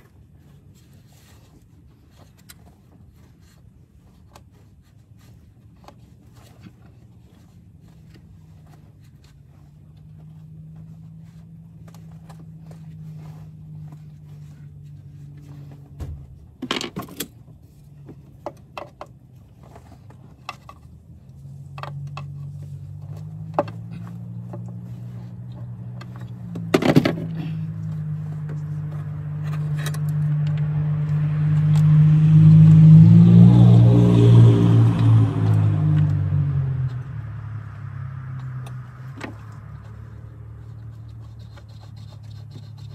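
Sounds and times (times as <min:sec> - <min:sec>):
vehicle engine humming: 0:00.0 - 0:42.9.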